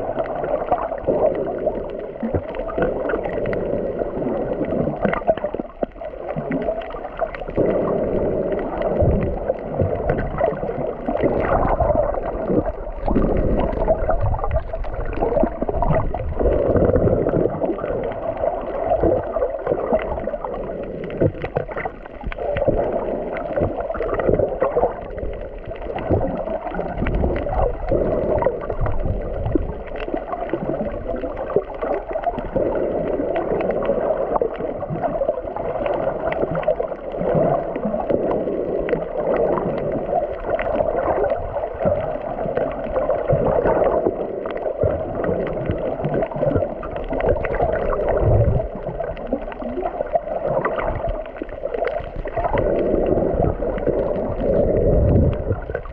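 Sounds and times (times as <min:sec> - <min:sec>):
underwater clicks and crackles: 0:00.0 - 0:55.9
underwater water rushing: 0:00.0 - 0:55.9.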